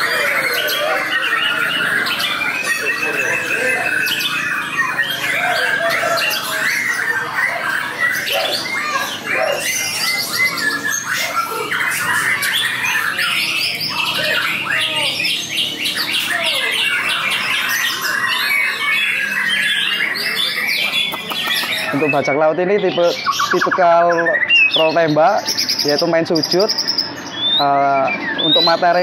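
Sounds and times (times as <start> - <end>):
songbird singing varied song: 0.0 - 29.0.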